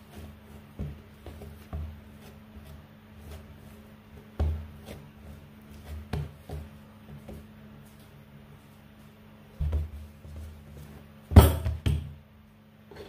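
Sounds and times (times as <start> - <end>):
dough kneading thuds: 0.0 - 12.4.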